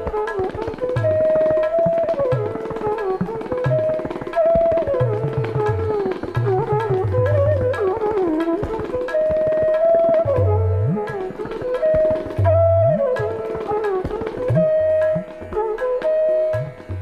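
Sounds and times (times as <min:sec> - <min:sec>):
sliding melody: 0:00.0 - 0:17.0
tabla strokes: 0:00.0 - 0:17.0.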